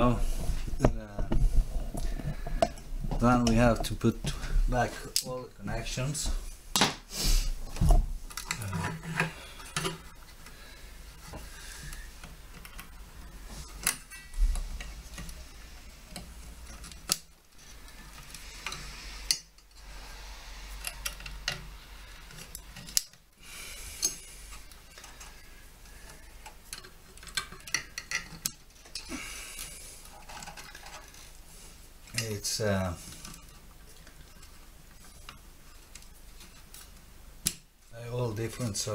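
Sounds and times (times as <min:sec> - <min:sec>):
cables being moved: 0:00.0 - 0:06.6, 0:07.5 - 0:37.2.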